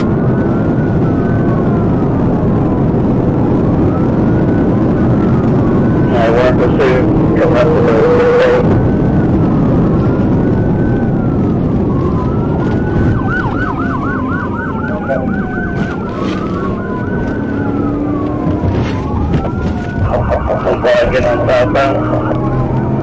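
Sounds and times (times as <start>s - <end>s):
police siren wailing and yelping: 0.0s - 23.0s
road and wind noise: 0.0s - 23.0s.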